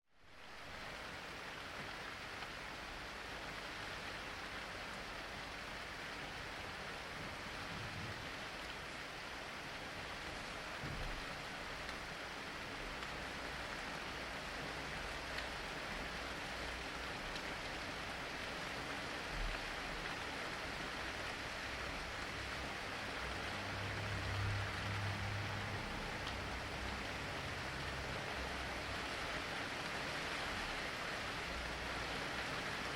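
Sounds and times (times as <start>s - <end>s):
dense rain falling: 0.2s - 32.9s.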